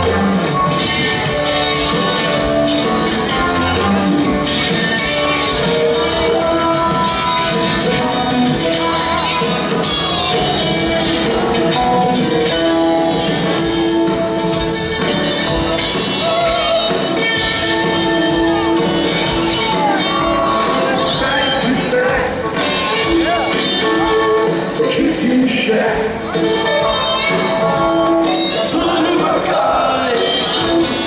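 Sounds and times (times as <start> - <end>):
drums: 0.0 - 31.0
electric guitar: 0.0 - 31.0
person singing: 0.0 - 31.0.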